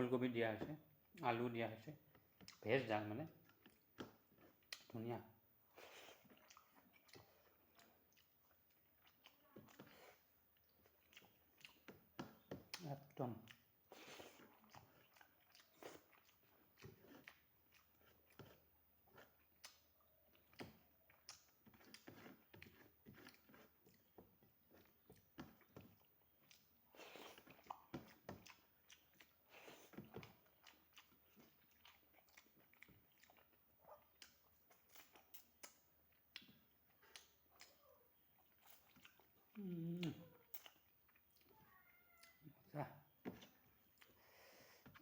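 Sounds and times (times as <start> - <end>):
chewing with wet mouth smacks: 2.1 - 2.6, 3.3 - 4.9, 5.8 - 42.5, 43.3 - 45.0.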